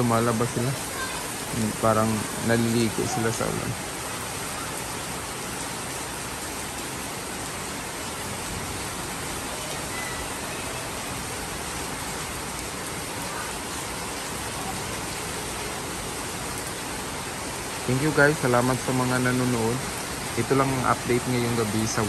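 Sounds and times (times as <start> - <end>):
heavy rain on pavement: 0.0 - 22.0.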